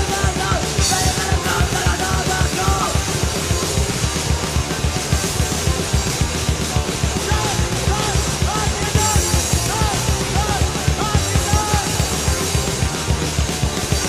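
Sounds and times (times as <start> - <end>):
distorted rock instruments: 0.0 - 14.0
fast dense drumming: 0.0 - 14.0.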